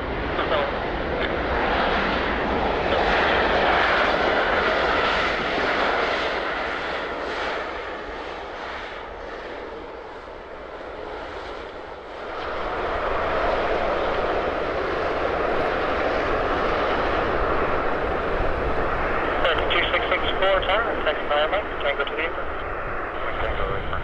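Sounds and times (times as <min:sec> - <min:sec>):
airliner engines passing by: 0:00.0 - 0:24.0.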